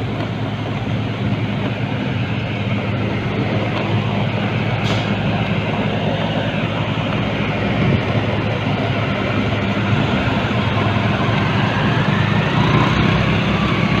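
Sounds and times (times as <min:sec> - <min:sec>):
road noise: 0:00.0 - 0:14.0
truck diesel engine pulling hard: 0:00.0 - 0:14.0.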